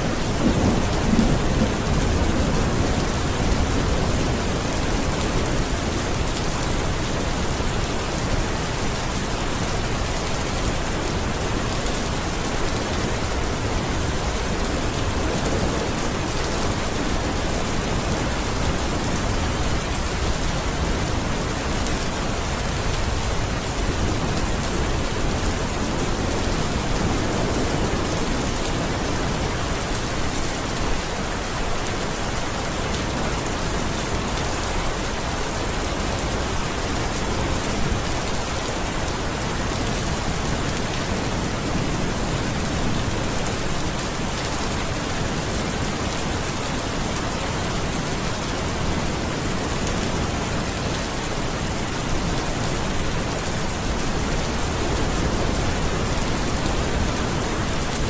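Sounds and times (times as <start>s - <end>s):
heavy rain on a surface: 0.0s - 58.0s.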